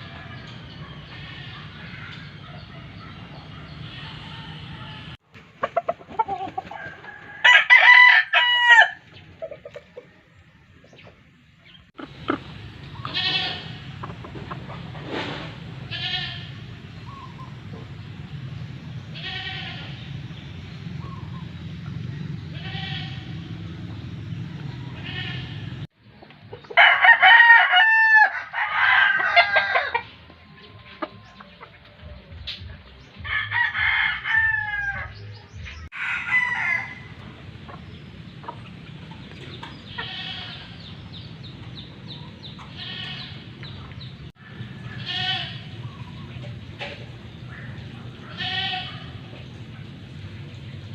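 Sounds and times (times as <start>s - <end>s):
roosters crowing: 0.0s - 10.8s, 12.0s - 25.9s, 26.7s - 30.3s, 33.2s - 50.1s.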